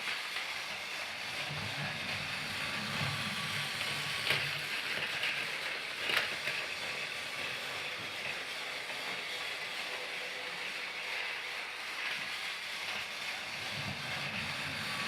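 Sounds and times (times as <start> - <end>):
toy train rattling hiss: 0.0 - 15.0.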